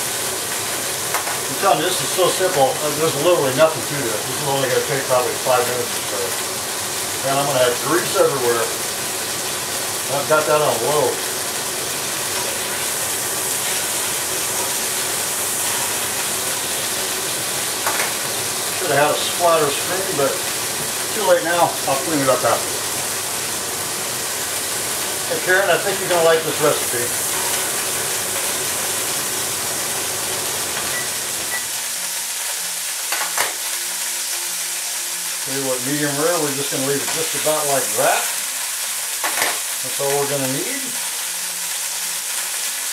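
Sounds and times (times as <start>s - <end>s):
steak sizzling in a skillet: 0.0s - 42.9s.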